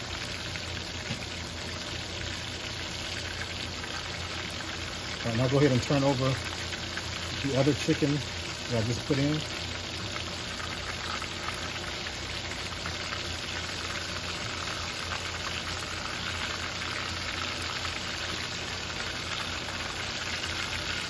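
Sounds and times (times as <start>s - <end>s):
oil sizzling and bubbling: 0.0s - 21.0s.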